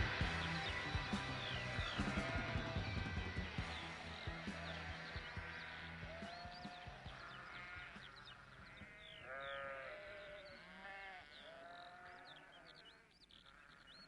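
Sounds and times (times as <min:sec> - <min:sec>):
faint bleating calls: 0:00.0 - 0:13.8.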